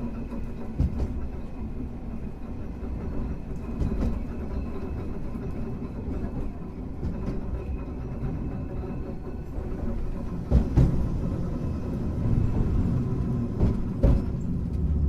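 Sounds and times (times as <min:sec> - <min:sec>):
light track knocks: 0:00.0 - 0:15.0
tram wheels rumbling on rails: 0:00.0 - 0:15.0.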